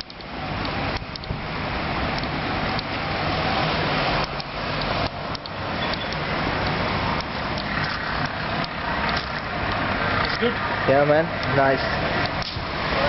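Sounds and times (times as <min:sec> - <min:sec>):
road traffic going past: 0:00.0 - 0:13.0.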